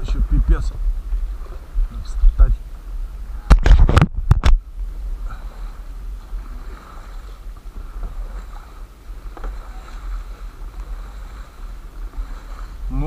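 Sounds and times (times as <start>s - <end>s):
steady low rumble: 0.0s - 13.0s
water lapping around boat hull: 0.0s - 13.0s.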